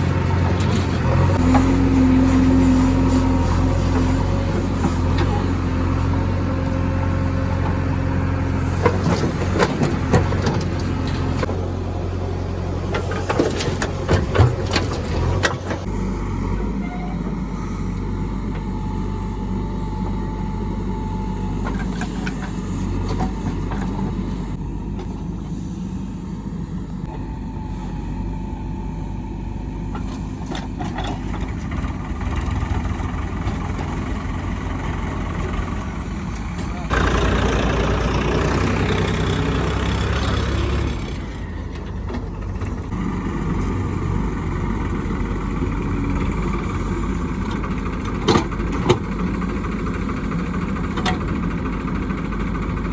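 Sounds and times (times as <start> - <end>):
diesel machinery engine running: 0.0 - 52.9.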